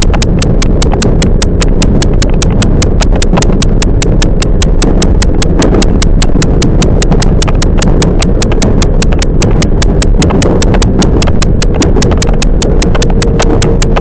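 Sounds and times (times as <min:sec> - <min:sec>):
electric train rumbling and clicking: 0:00.0 - 0:14.0.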